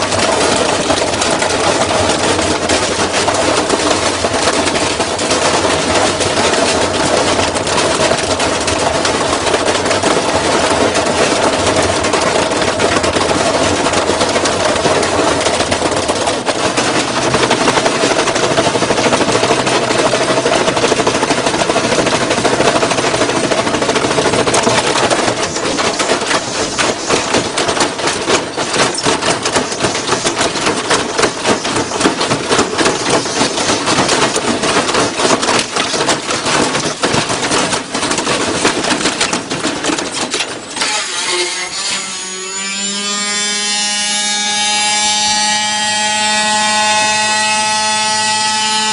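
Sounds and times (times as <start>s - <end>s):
washing machine motor whine: 0.0s - 38.8s, 40.6s - 48.9s
washing machine rattling knocks: 0.0s - 40.9s.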